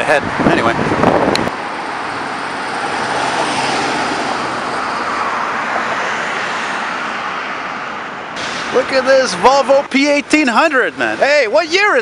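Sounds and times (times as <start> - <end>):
motorhome passing close: 0.0 - 12.0
road traffic: 0.0 - 12.0.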